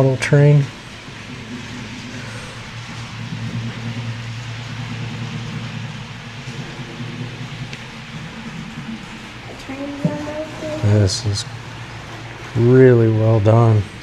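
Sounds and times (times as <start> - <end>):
model train electric hum: 0.0 - 14.0
wheels whirring on track: 0.0 - 14.0.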